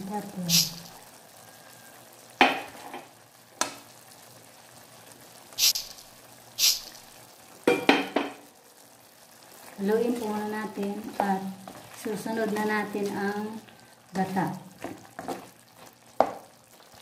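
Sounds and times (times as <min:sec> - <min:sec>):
faint simmering sizzle: 0:00.0 - 0:17.0.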